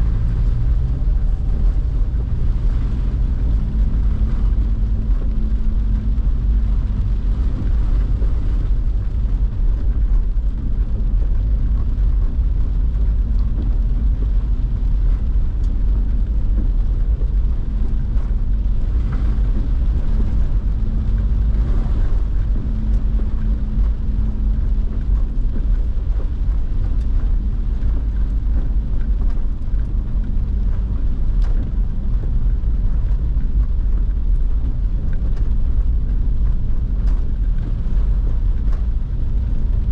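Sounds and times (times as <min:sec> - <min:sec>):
low hum: 0:00.0 - 0:39.9
road and engine rumble: 0:00.0 - 0:39.9.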